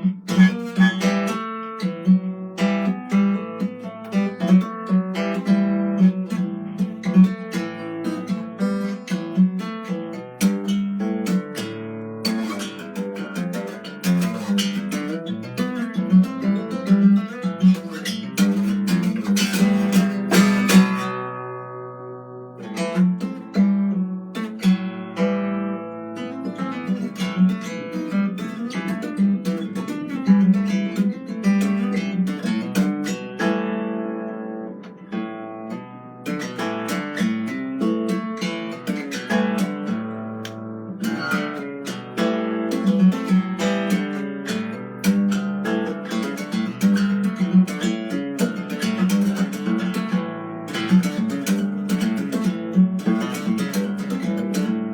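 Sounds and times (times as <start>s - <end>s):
acoustic guitar playing: 0.0s - 54.9s.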